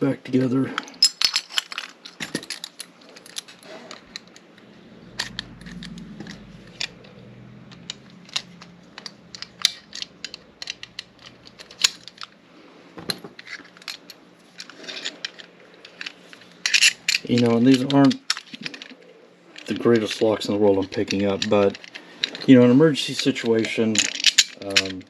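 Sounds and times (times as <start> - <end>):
metal lock parts clicking: 0.8 - 12.4, 13.3 - 22.5, 23.1 - 25.0.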